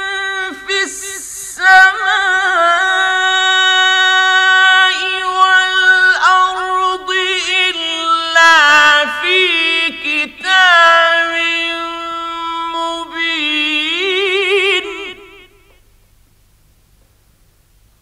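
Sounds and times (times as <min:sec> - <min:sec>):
man chanting: 0:00.0 - 0:15.8.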